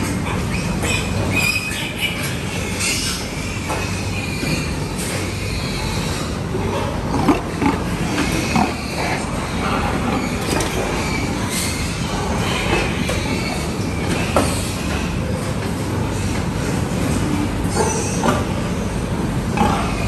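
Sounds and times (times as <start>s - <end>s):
pigs squealing and grunting: 0.0s - 20.0s.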